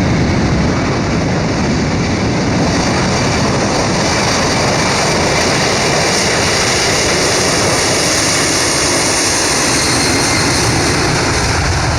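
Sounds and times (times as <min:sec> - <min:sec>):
jet engines running: 0:00.0 - 0:11.9.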